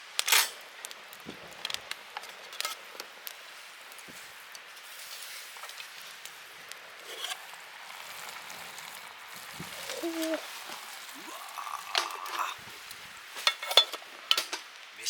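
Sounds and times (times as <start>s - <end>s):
food sizzling in a mess tin: 0.2s - 15.0s.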